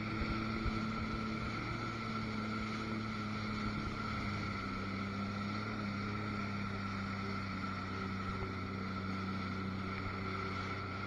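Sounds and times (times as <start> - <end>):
jet ski engine droning: 0.0 - 11.0
water noise: 0.0 - 11.0.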